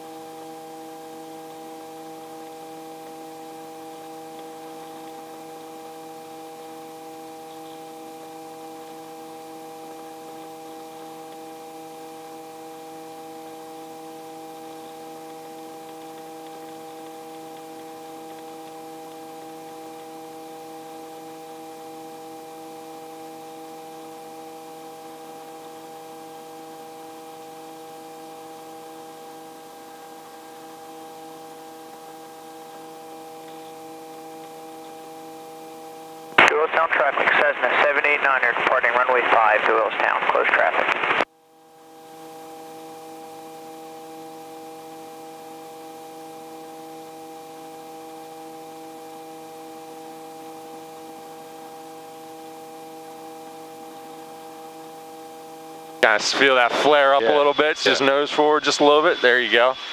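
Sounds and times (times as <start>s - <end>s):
helicopter cabin drone: 0.0s - 59.9s.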